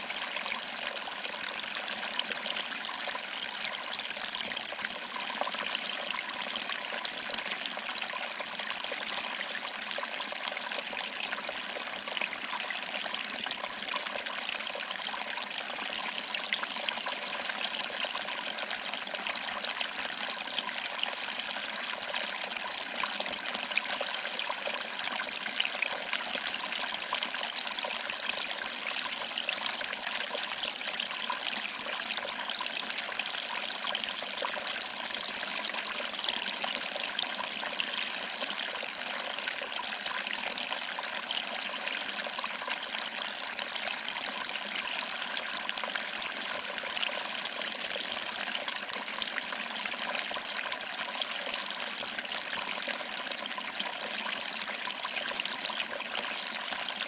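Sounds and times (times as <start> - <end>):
waterfall trickling over rocks: 0.0 - 57.0.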